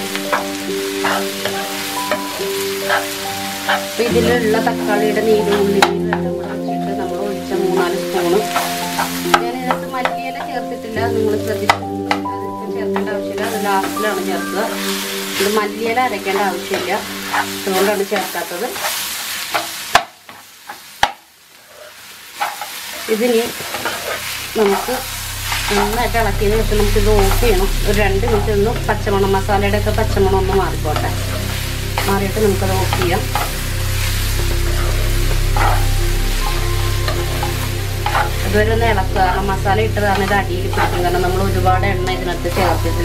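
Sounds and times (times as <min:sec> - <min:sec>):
metal spoon scraping a pan: 0:00.0 - 0:06.7, 0:07.8 - 0:10.6, 0:12.9 - 0:20.8, 0:21.7 - 0:29.4, 0:30.0 - 0:41.8
background music with held notes: 0:00.0 - 0:19.0, 0:23.9 - 0:43.0
vegetables sizzling in a frying pan: 0:00.0 - 0:43.0.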